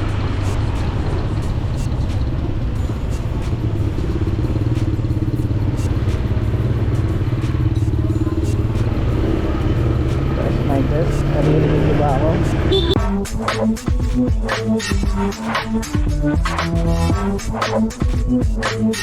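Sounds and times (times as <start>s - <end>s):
motorcycle engine drone: 0.0s - 18.6s.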